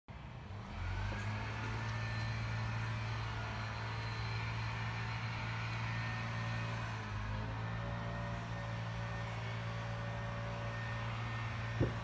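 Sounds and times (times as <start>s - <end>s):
motor humming: 0.5s - 12.0s.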